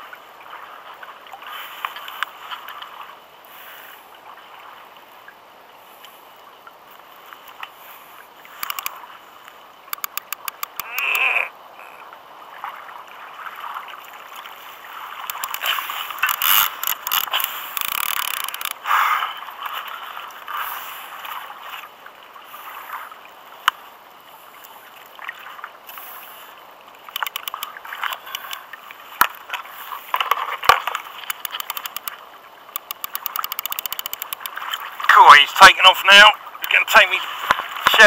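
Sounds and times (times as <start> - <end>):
water sloshing around a kayak: 0.0 - 38.0.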